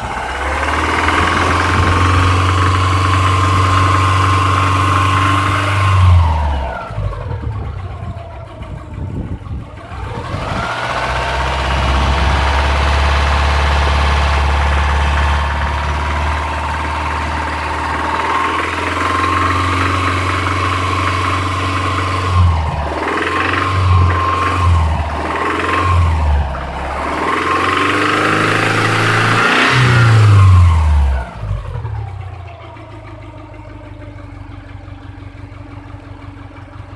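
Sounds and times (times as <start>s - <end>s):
car engine running with knock: 0.0s - 36.9s.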